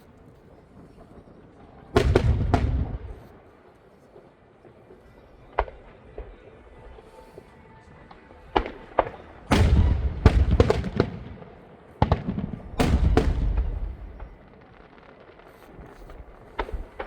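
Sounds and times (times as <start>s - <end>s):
fireworks bangs: 0.1s - 17.0s
fireworks booms with rumble: 0.1s - 17.0s.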